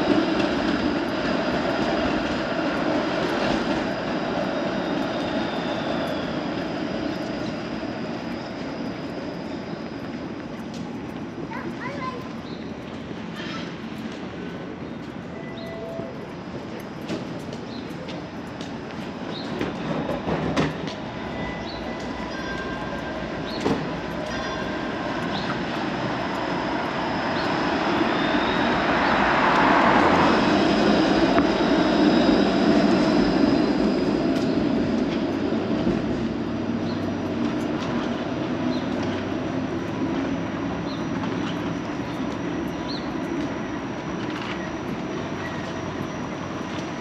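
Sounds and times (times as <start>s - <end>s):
street traffic: 0.0s - 47.0s
streetcar rumbling and whining: 0.0s - 47.0s.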